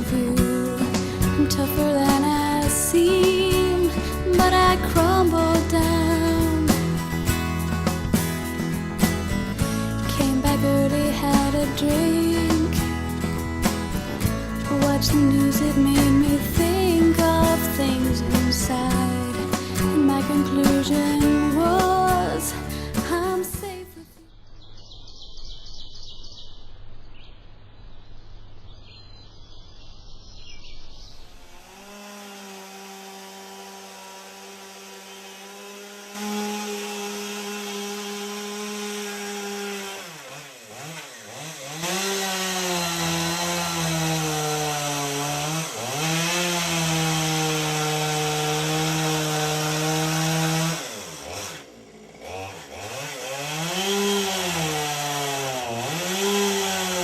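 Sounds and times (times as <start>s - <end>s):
chainsaw running at high speed: 0.0s - 23.4s, 31.2s - 57.0s.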